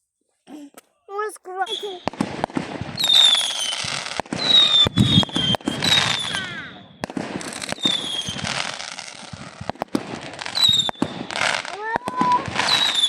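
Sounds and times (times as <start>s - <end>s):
fireworks crackling: 1.4s - 13.0s
firework bangs: 1.6s - 13.0s
firework whistles: 1.6s - 13.0s.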